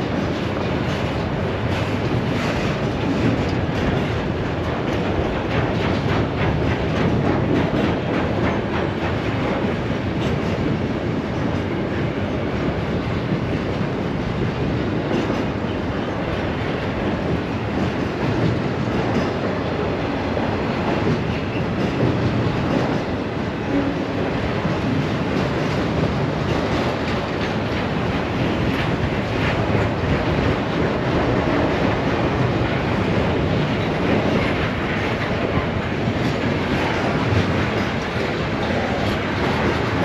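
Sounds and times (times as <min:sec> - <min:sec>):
freight train cars rumbling: 0:00.0 - 0:40.0.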